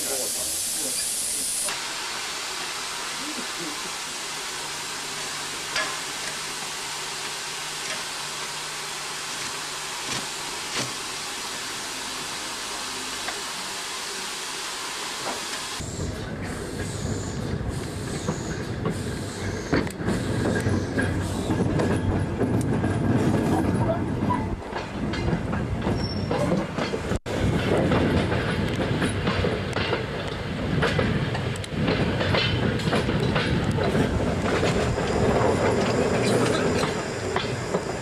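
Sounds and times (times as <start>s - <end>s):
steam engine hissing: 0.0s - 22.5s, 25.8s - 38.0s
train rumbling: 0.0s - 38.0s.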